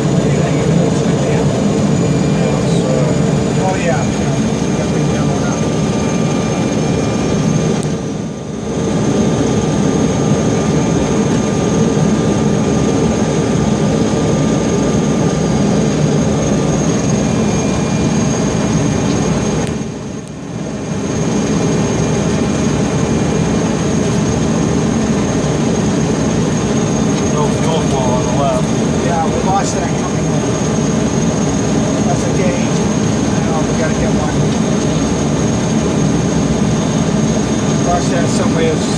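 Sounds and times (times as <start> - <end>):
aircraft engine running: 0.0 - 38.9.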